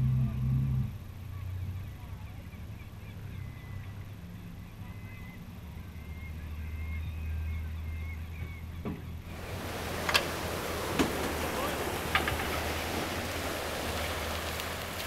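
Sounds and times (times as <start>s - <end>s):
low steady rumble: 0.0s - 15.0s
gulls squawking: 2.8s - 15.0s.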